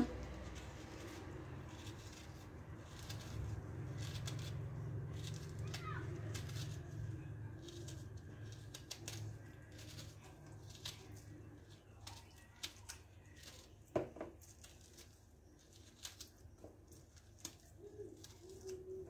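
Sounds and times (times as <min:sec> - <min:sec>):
knife scraping orange peel: 0:00.0 - 0:19.0.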